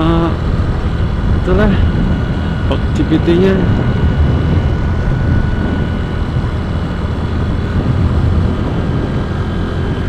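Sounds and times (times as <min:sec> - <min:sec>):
scooter engine and tyres: 0:00.0 - 0:10.0
wind rushing on microphone: 0:00.0 - 0:10.0.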